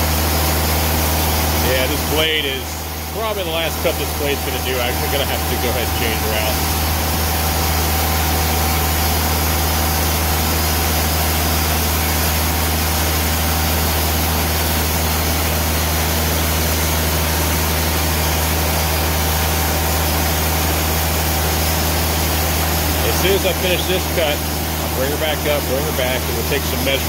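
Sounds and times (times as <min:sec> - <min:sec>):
band sawmill cutting log: 0:00.0 - 0:27.0.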